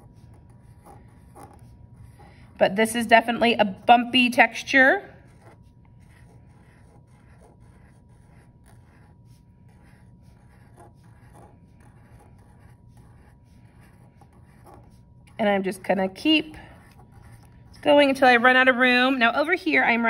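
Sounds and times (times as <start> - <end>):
marker drawing on paper: 0.0 - 18.1.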